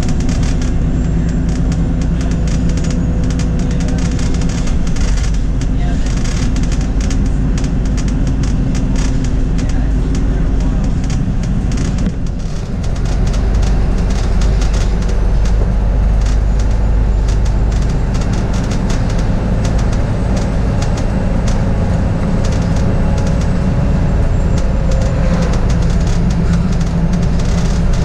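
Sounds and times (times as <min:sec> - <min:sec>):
bus engine and road rumble: 0:00.0 - 0:28.0
rattles and clicks: 0:00.0 - 0:28.0.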